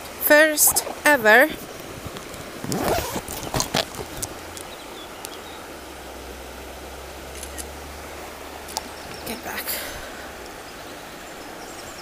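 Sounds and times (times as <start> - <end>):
flowing stream rushing: 0.0 - 12.0.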